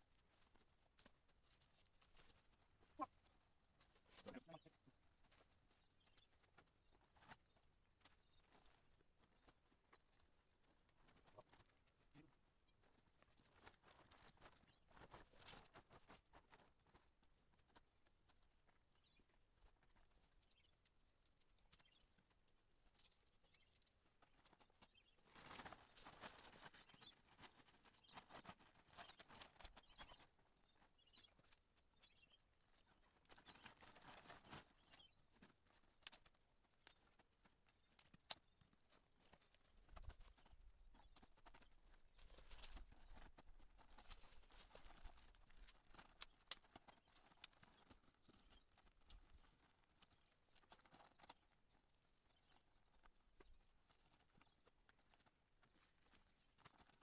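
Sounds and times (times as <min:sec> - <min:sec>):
soft rustling: 0:00.0 - 0:57.0.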